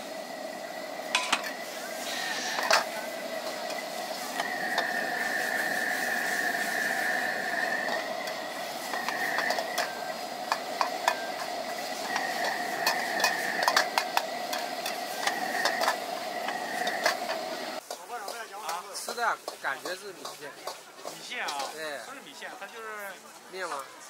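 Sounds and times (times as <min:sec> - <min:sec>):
gas burner hum: 0:00.0 - 0:22.0
food sizzling: 0:00.0 - 0:24.0
ladle scraping and clanking on wok: 0:00.4 - 0:22.1.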